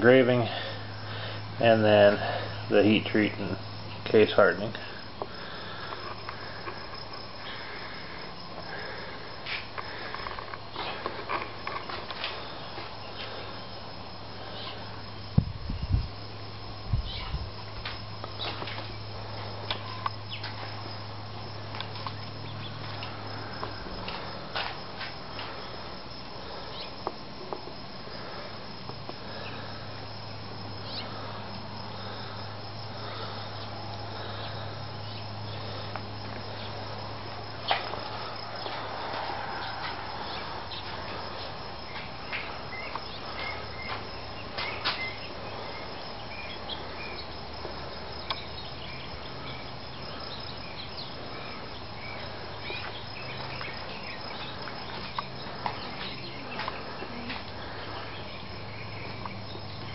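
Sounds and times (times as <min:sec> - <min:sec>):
insects chirping: 0:00.0 - 0:59.9
steady low hum: 0:00.0 - 0:59.9.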